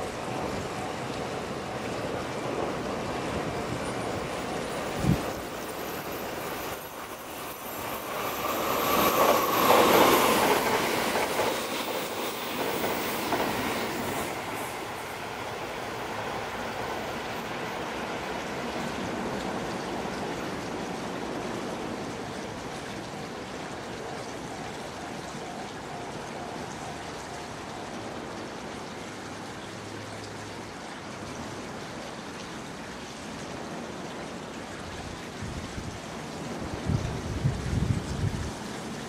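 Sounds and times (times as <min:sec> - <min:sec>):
electric train running on rails: 0:00.0 - 0:39.0.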